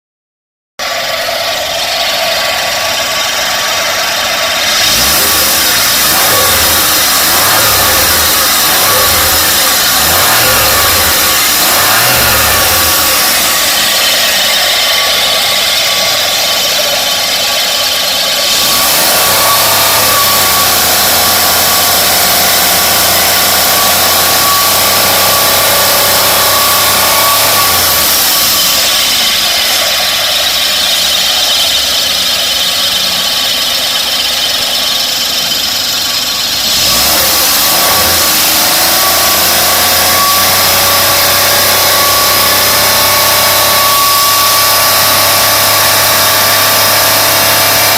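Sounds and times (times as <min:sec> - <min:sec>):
sliding pitch whine: 0:00.8 - 0:47.9.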